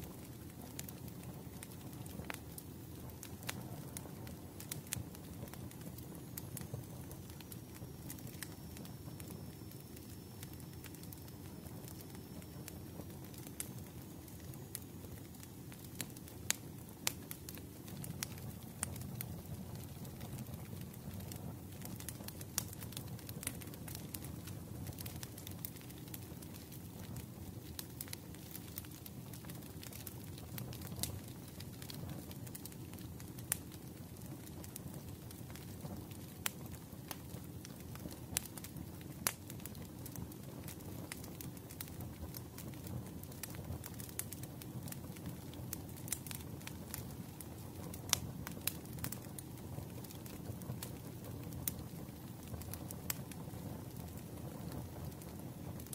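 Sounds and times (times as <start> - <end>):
burning wood rumble: 0.0 - 55.9
fire popping: 0.0 - 55.9.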